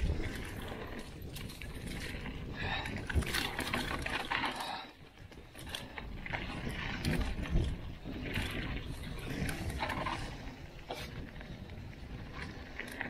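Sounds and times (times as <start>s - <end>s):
bike clattering: 0.0s - 13.0s
tyres rolling over dirt and rocks: 0.0s - 13.0s.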